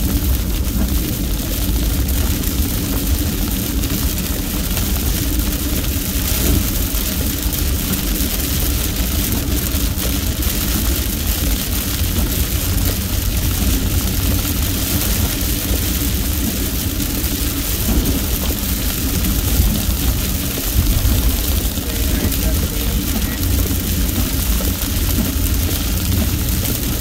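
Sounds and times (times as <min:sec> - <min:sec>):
engine and tyres rumbling: 0:00.0 - 0:27.0
heavy rain on car windshield: 0:00.0 - 0:27.0.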